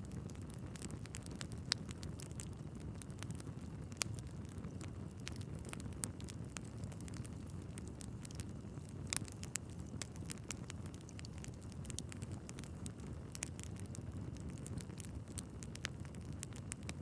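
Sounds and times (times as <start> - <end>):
logs popping and crackling: 0.0 - 17.0
low rumble of flames: 0.0 - 17.0.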